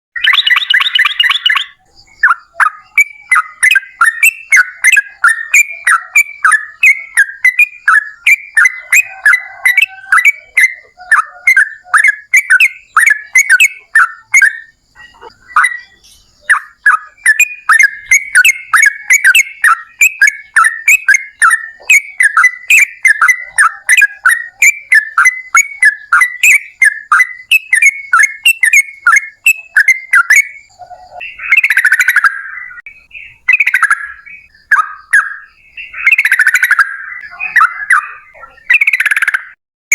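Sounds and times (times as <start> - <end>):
bulbul singing rapid chirping notes: 0.2 - 39.6
harsh bird calls: 0.2 - 39.6.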